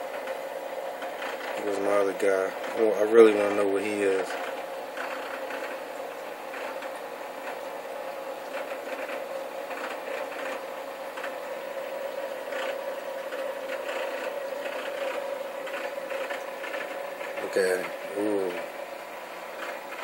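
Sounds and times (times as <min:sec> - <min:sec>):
aquarium equipment hum: 0:00.0 - 0:20.0
faint irregular rattle: 0:01.0 - 0:05.8, 0:06.5 - 0:07.6, 0:08.5 - 0:20.0.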